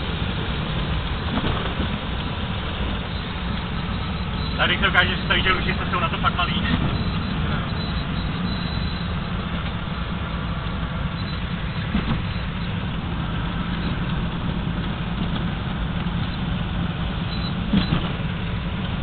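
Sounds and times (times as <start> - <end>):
propeller engines droning: 0.0 - 19.0.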